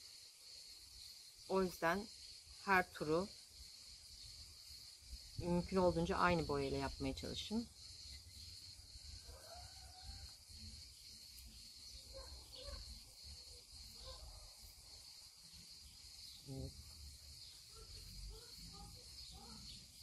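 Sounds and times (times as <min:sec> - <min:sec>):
faint chirps: 0:00.0 - 0:20.0
high insect buzz: 0:00.0 - 0:20.0.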